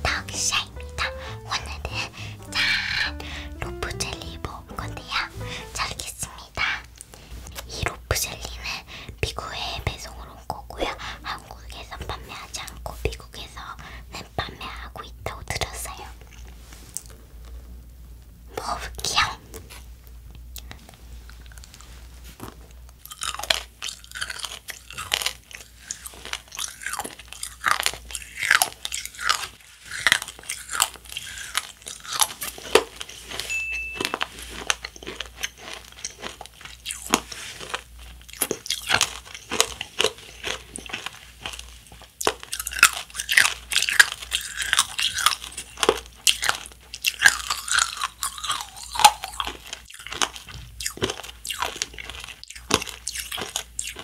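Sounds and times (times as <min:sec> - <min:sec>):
candy crunching while chewed: 0:00.0 - 0:14.8, 0:20.5 - 0:54.0.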